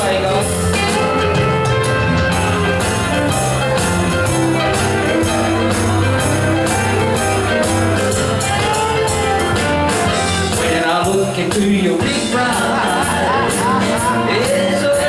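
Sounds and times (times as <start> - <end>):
band playing upbeat pop: 0.0 - 15.0.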